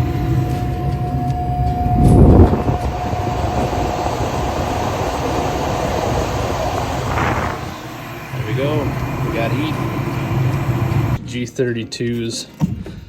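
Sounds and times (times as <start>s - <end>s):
burners lighting with low rush: 0.0s - 11.2s
furnace flame and fans rumbling: 0.0s - 11.2s.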